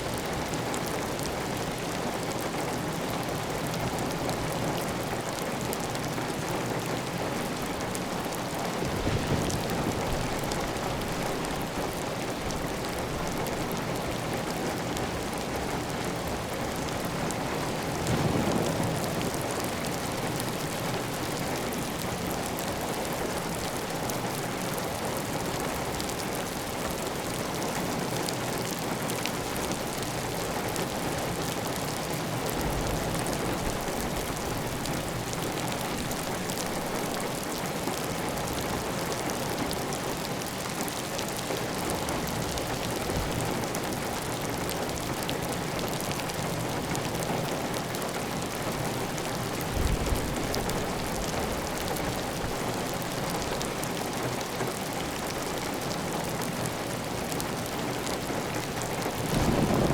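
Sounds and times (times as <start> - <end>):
heavy rain on a tile roof: 0.0 - 59.9.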